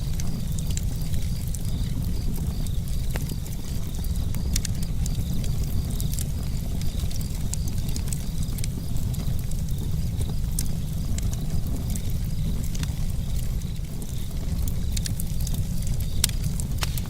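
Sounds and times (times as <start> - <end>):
campfire crackling and popping: 0.0 - 17.0
fire low rumble: 0.0 - 17.0.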